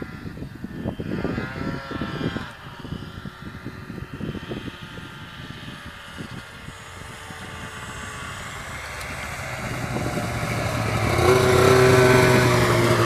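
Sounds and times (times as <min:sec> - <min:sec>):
snowmobile engine passing by: 0:00.0 - 0:13.0.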